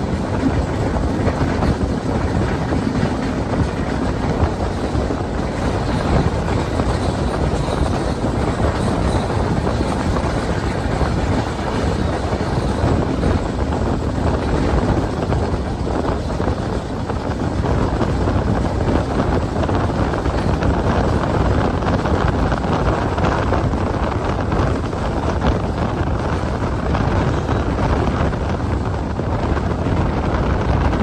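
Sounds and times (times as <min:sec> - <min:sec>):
train rumbling at speed: 0:00.0 - 0:31.0.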